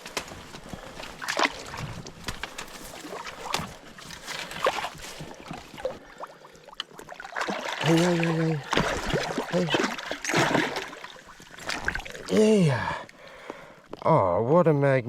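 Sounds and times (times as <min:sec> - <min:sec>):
small water splashes: 0:00.0 - 0:14.0
water sloshing: 0:00.0 - 0:14.0.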